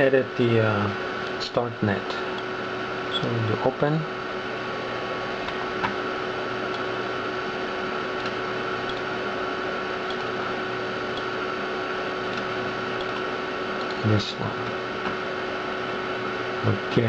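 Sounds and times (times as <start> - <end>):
computer whirring and whining: 0.0 - 17.0.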